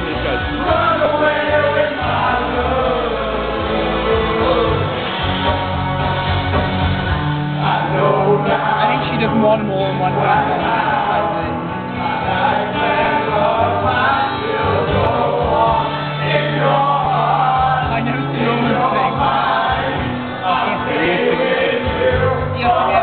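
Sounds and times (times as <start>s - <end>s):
group of voices singing: 0.0s - 23.0s
loud music: 0.0s - 23.0s.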